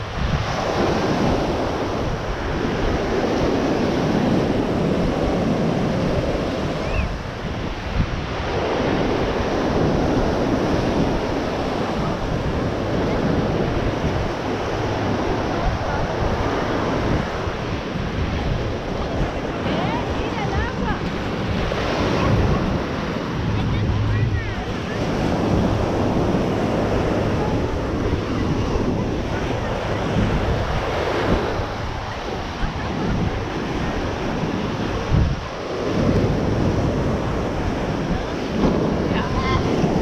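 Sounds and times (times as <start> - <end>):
ocean surf breaking: 0.0 - 40.0
wind buffeting microphone: 0.0 - 40.0.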